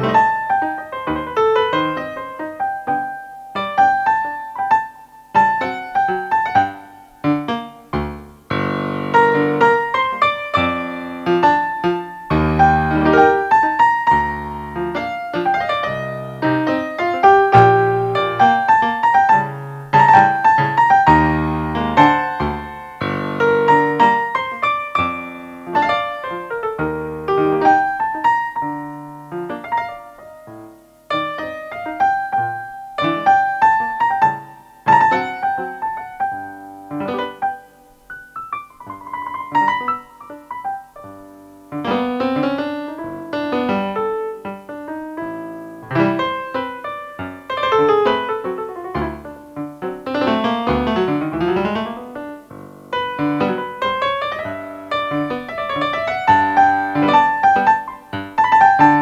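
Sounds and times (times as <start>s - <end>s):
digital piano playing: 0.0s - 59.0s.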